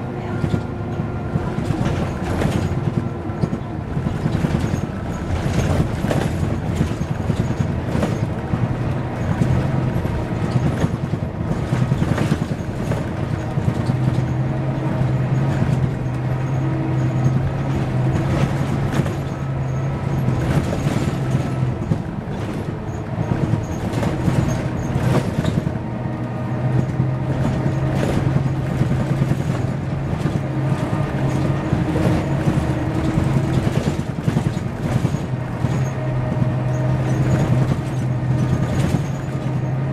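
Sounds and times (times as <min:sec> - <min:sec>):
bus engine low note: 0:00.0 - 0:39.9.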